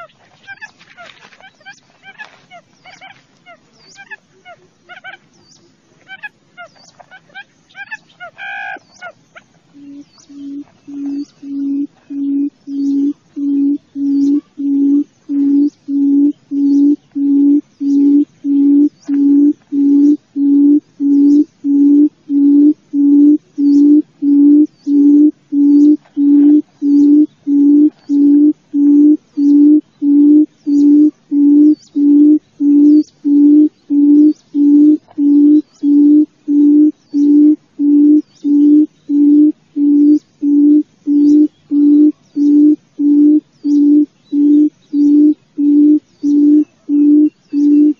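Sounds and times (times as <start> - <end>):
buttonquail low hooting calls: 0.0 - 47.9.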